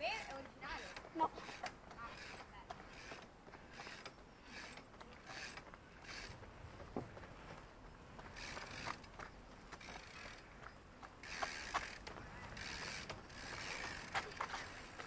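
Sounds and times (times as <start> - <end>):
bike freewheel hub ratcheting: 0.0 - 6.4, 8.3 - 10.5, 11.2 - 15.0.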